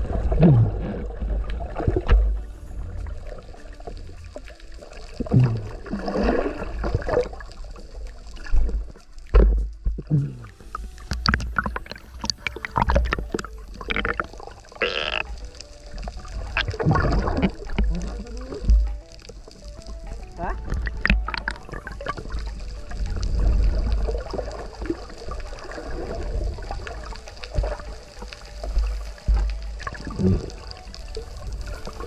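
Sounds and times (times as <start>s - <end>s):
water sloshing and bubbling: 0.0s - 32.0s
water splashes: 0.0s - 32.0s.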